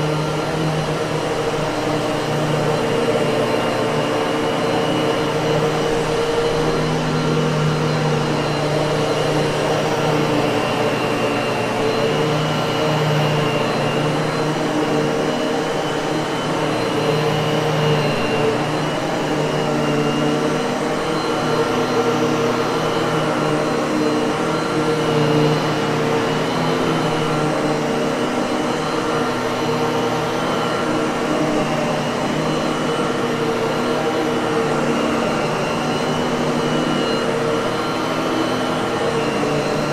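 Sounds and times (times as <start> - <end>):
vacuum cleaner motor: 0.0 - 39.9.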